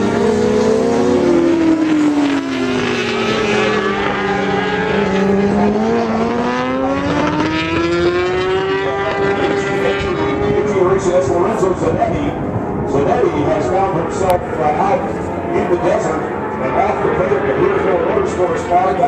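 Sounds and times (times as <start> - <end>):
other motorcycle engines: 0.0 - 19.0
racing motorcycle engine: 0.0 - 19.0.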